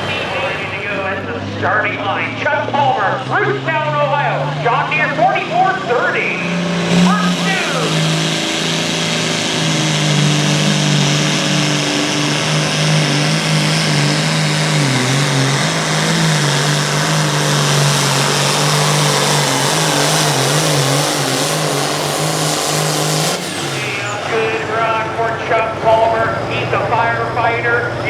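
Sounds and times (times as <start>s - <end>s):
tractor diesel engine under load: 0.0s - 28.0s.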